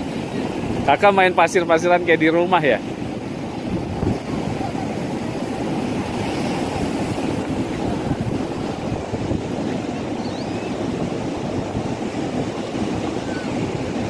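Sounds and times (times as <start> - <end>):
surf rushing on beach: 0.0 - 14.0
wind buffeting microphone: 2.7 - 14.0.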